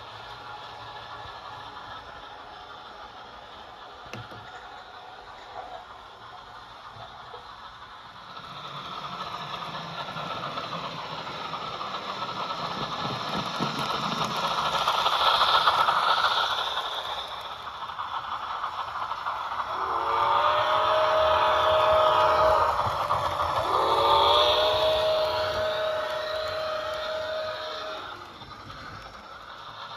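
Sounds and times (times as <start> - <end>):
model train mechanical rattle: 0.0 - 29.9.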